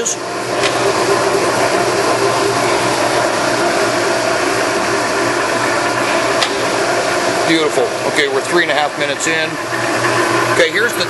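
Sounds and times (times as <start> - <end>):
lathe gear train humming: 0.0 - 11.0.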